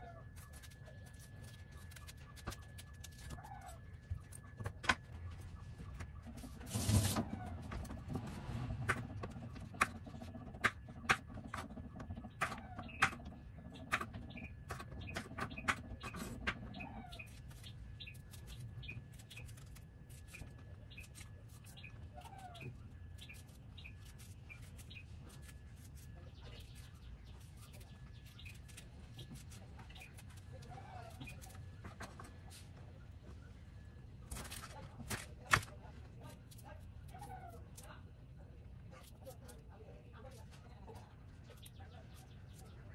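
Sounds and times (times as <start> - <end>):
faint birds chirping: 0.0 - 42.9.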